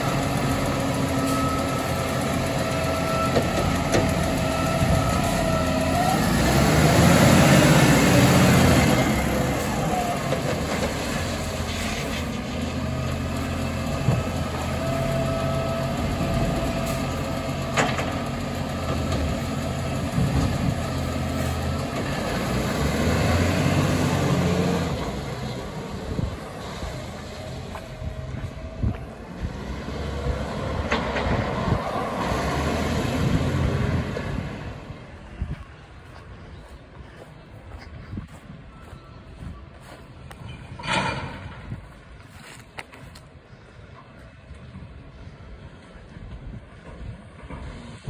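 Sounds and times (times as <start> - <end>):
diesel truck engine running: 0.0 - 47.7.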